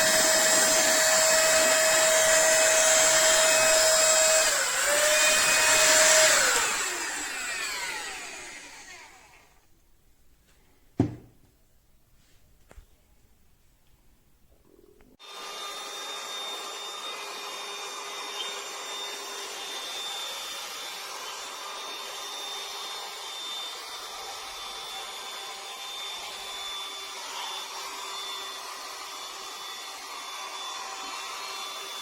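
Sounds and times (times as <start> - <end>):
handheld vacuum motor whining: 0.0 - 9.6, 15.2 - 32.0.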